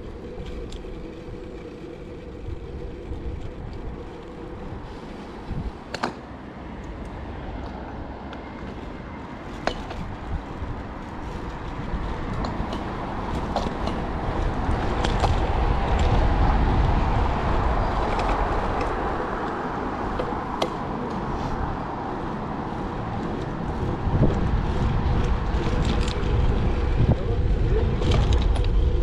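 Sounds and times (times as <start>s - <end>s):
street traffic: 0.0s - 29.0s
wind rushing over microphone: 0.0s - 29.0s.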